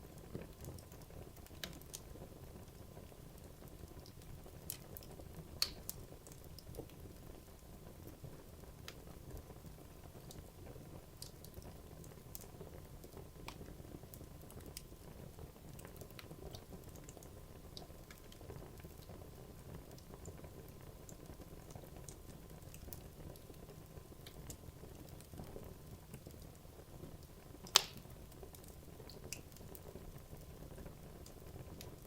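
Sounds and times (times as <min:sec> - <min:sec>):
wood crackling and popping: 0:00.1 - 0:32.0.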